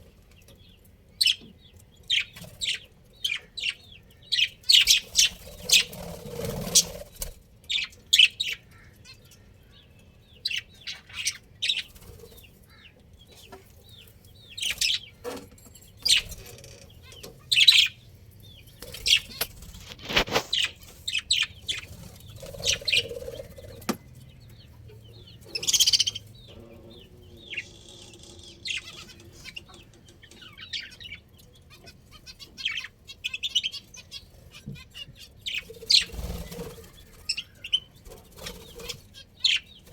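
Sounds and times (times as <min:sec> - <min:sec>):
budgerigars chirping: 0:00.6 - 0:07.1, 0:10.3 - 0:15.4, 0:16.0 - 0:39.9.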